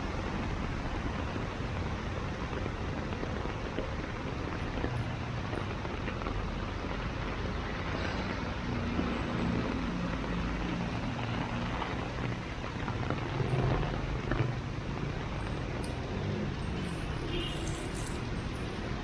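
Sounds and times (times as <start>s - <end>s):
heavy rain: 0.0s - 19.0s
road traffic rumble: 0.0s - 19.0s.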